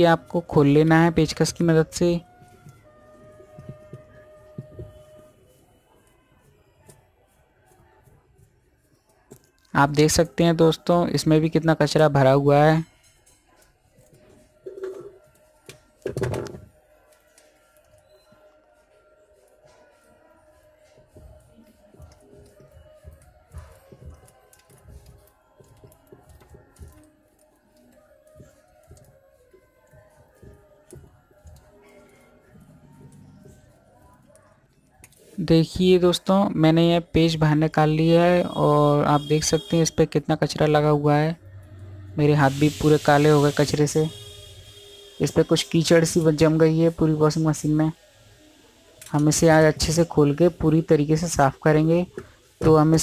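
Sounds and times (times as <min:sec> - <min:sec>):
faint background music: 0:00.0 - 0:53.0.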